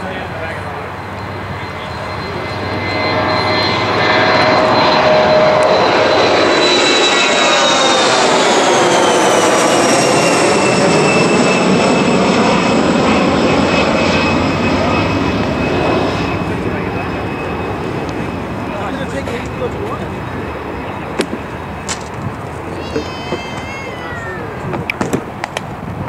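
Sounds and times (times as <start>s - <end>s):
airplane engine rush: 0.0s - 26.0s.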